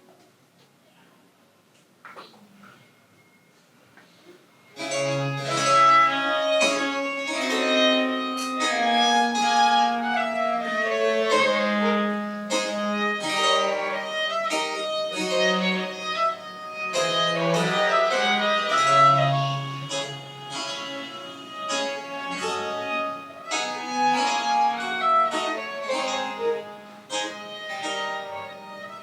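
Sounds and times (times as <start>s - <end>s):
baroque chamber music: 4.8s - 29.0s.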